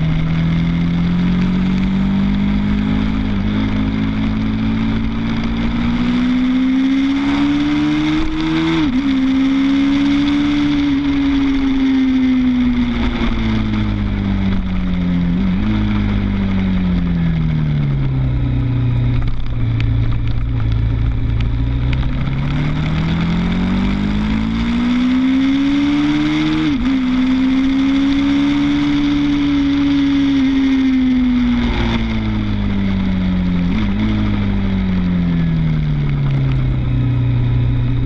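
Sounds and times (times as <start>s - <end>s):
motorcycle engine: 0.0s - 38.0s.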